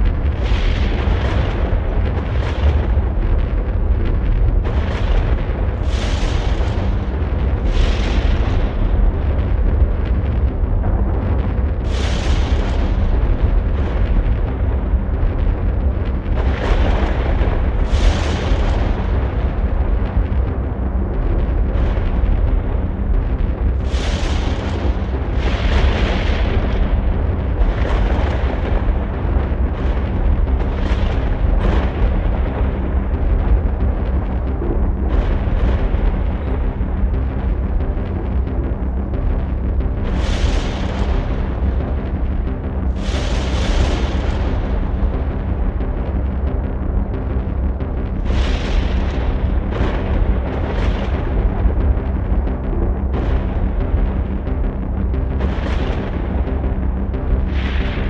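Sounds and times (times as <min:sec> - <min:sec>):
deep storm-like rumbling: 0:00.0 - 0:58.0.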